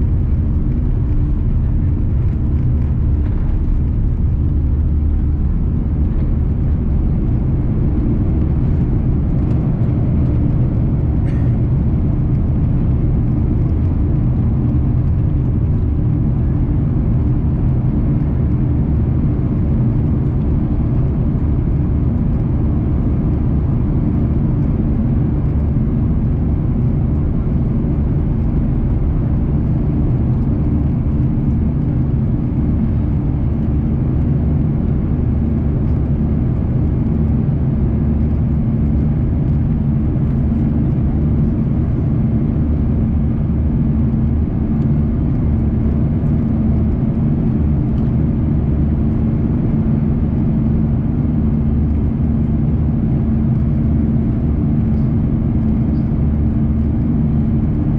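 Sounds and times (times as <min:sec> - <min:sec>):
jet engines rumbling: 0:00.0 - 0:57.8
constant low hum: 0:00.0 - 0:57.9.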